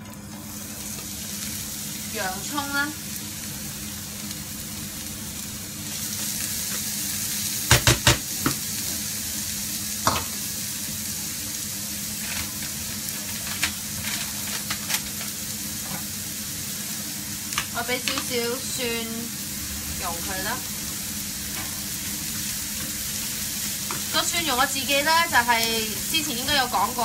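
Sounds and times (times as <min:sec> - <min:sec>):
onion sizzling in oil: 0:00.0 - 0:27.0.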